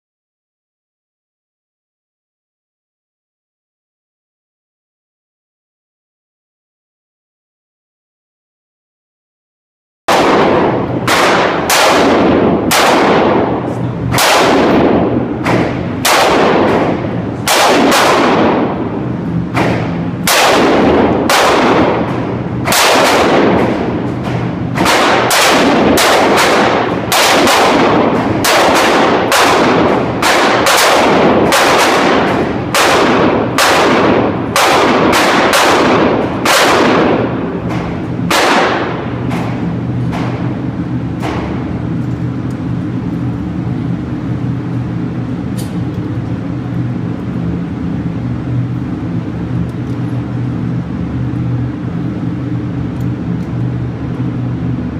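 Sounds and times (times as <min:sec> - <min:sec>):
pistol shots echoing indoors: 0:10.1 - 0:54.9
steady low hum: 0:10.1 - 0:54.9.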